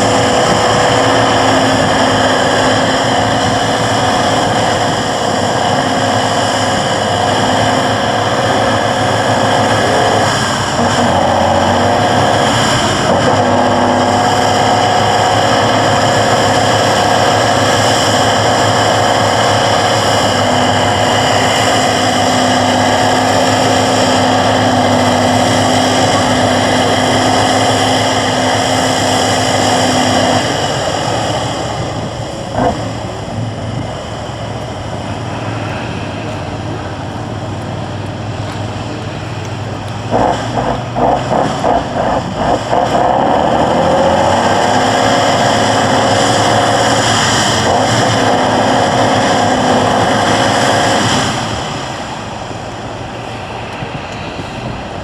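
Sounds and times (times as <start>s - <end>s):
truck diesel engine revving: 0.0s - 55.0s.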